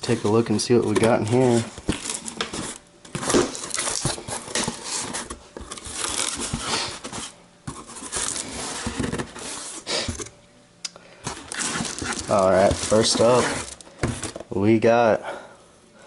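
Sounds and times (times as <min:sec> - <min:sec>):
cardboard packaging rustling: 0:00.0 - 0:10.3, 0:11.3 - 0:14.5.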